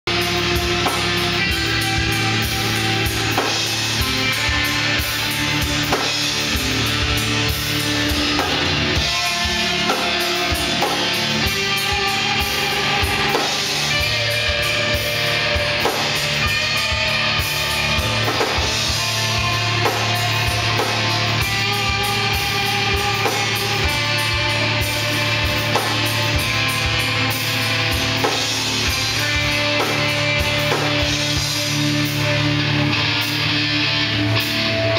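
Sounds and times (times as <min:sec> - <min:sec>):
bass guitar: 0:00.0 - 0:34.9
distorted electric guitars: 0:00.0 - 0:34.9
drum kit fast beat: 0:00.1 - 0:34.8.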